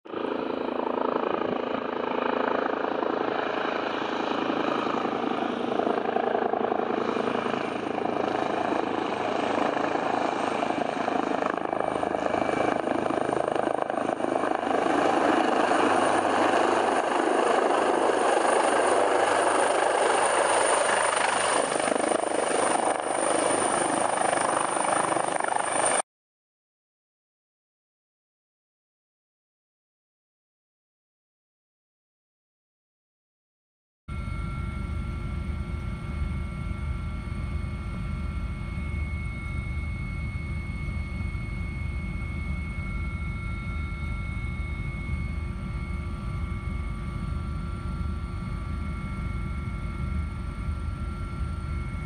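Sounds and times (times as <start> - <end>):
helicopter rotor and engine: 0.1 - 26.0, 34.1 - 52.0.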